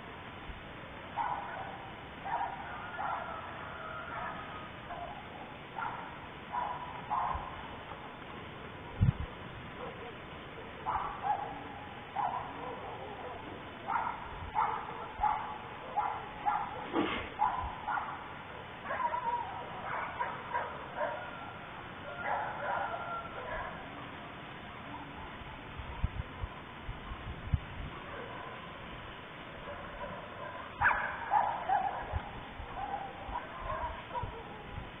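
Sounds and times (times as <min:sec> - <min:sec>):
faint hiss: 0:00.0 - 0:35.0.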